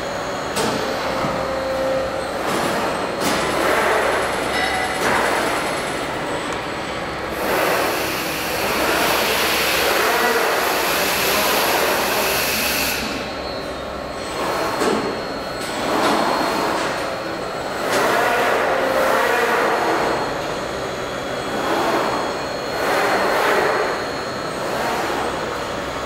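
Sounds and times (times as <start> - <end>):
machine whirring and hissing: 0.0 - 26.0.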